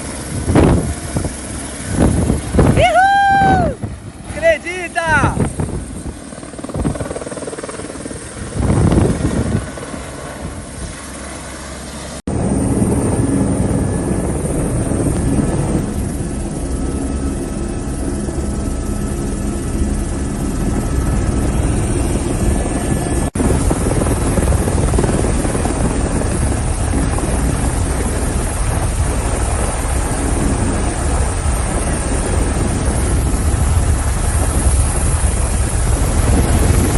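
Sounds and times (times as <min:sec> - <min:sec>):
helicopter rotor and turbine: 0:00.0 - 0:36.9.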